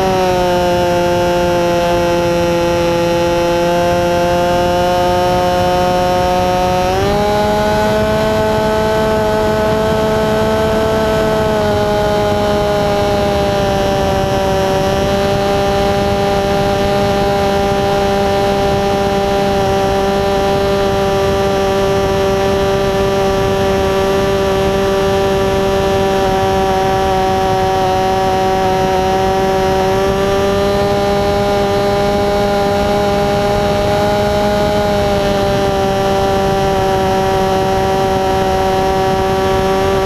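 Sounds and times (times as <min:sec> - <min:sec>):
model plane motor and propeller: 0:00.0 - 0:40.0.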